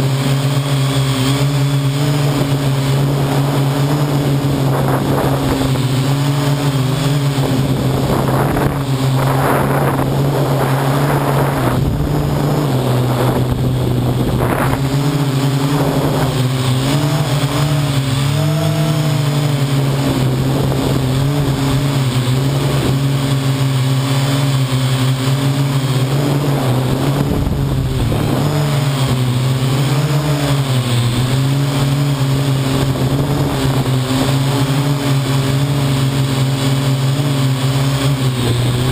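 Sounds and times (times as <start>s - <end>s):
quadcopter propellers whirring: 0.0s - 38.9s
rushing noise bursts: 0.8s - 36.8s.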